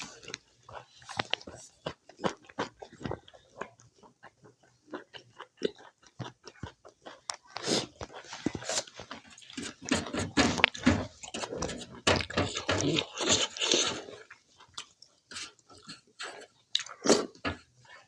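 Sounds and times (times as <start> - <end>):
person chewing and lip smacking: 0.0 - 18.0.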